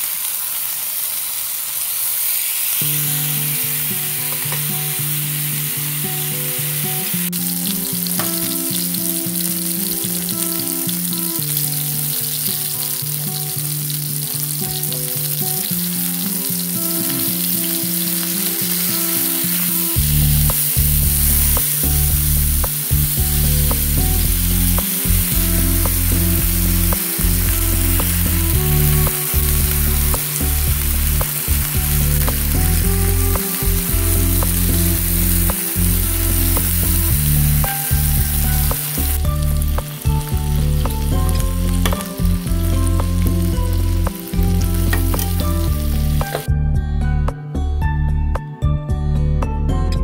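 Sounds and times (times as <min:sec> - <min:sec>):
food sizzling in a pan: 0:00.0 - 0:46.5
background music with bass line: 0:02.8 - 0:50.0.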